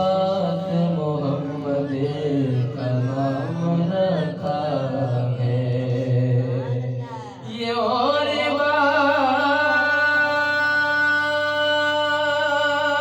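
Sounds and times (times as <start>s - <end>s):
man chanting devotional song: 0.0s - 13.0s.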